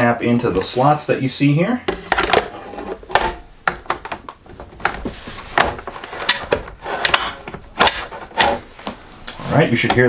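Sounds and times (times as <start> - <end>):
plastic handling noise: 1.9 - 10.0.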